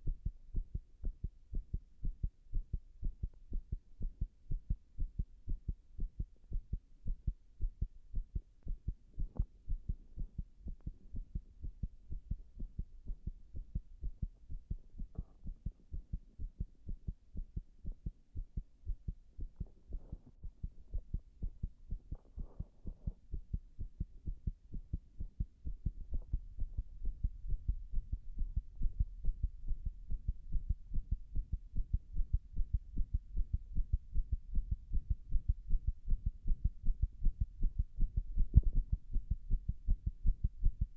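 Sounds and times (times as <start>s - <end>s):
heartbeat thumps: 0.0s - 40.9s.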